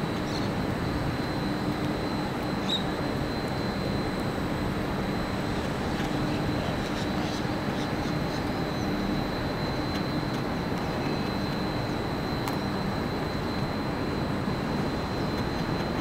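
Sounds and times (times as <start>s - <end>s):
low city rumble: 0.0s - 16.0s.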